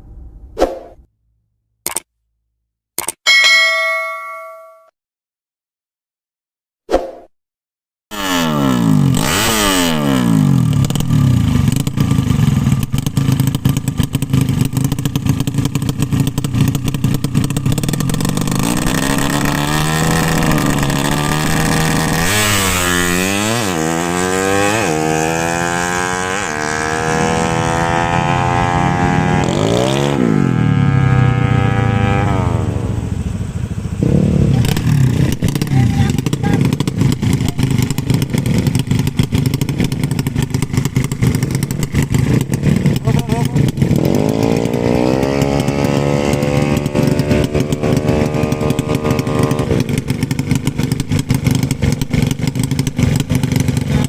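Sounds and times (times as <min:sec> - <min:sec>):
motorcycle engines revving: 0:08.1 - 0:54.0.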